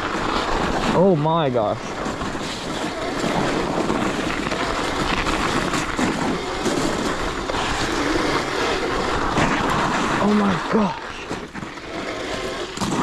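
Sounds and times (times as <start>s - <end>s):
tyre and chassis rumble: 0.0s - 13.0s
wind rushing over microphone: 0.0s - 13.0s.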